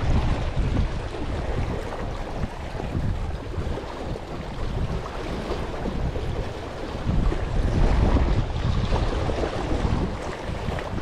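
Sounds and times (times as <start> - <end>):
gusty wind on microphone: 0.0 - 11.0
small waves washing around rocks: 0.0 - 11.0.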